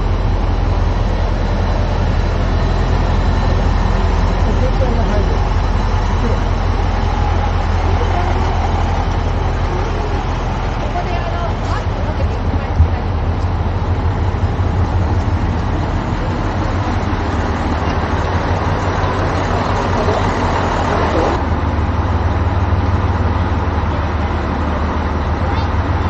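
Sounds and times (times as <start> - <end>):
diesel railcar engines running: 0.0 - 26.0.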